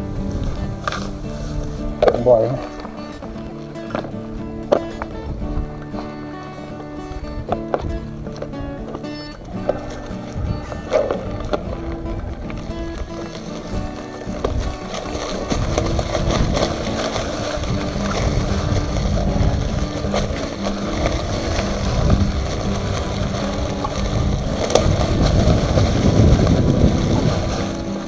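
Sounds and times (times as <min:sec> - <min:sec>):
bicycle tyres rumbling on dirt: 0:00.0 - 0:28.0
wind rushing over microphone: 0:00.0 - 0:28.0.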